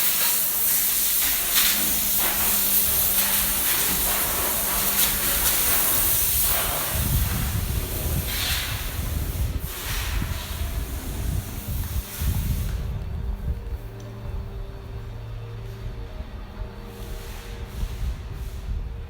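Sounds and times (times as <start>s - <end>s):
compressed air hissing: 0.0s - 14.3s, 15.2s - 19.0s
low hum: 1.9s - 19.0s
low rumble: 2.2s - 19.0s.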